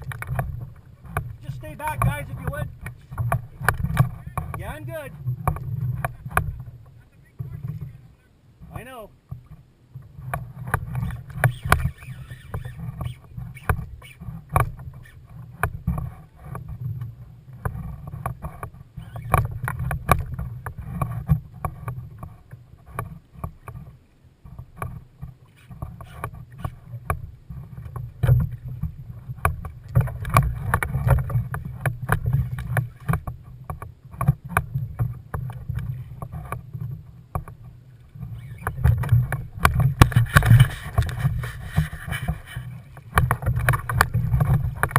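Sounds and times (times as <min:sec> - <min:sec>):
water knocking and splashing on hull: 0:00.0 - 0:08.0, 0:08.6 - 0:44.9.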